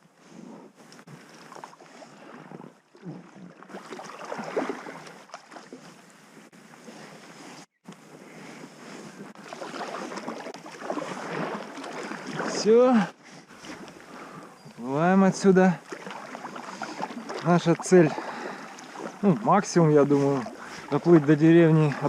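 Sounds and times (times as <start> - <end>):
water splashing around packraft: 0.0 - 22.0.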